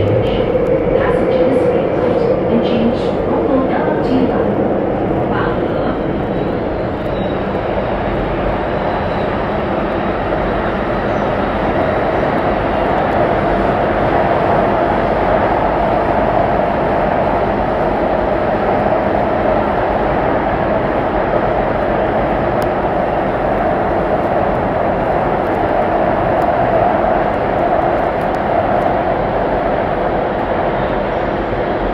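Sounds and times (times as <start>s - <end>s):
metro train rumbling in motion: 0.0s - 31.9s.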